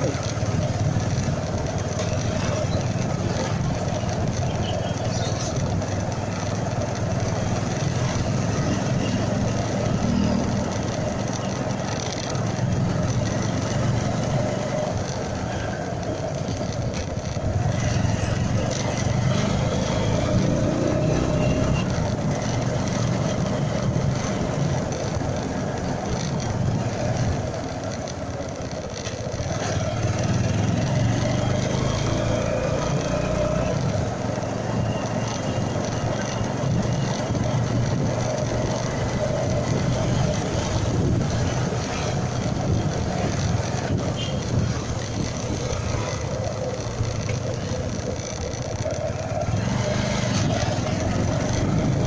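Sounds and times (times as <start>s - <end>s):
motorcycle engine running: 0.0s - 52.0s
road and wind noise: 0.0s - 52.0s
scooters passing: 0.0s - 52.0s.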